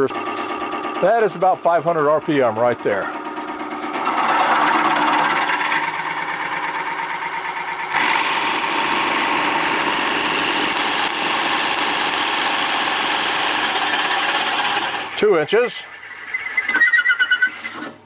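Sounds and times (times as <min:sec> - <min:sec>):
lathe drill bit grinding wood: 0:00.0 - 0:17.9.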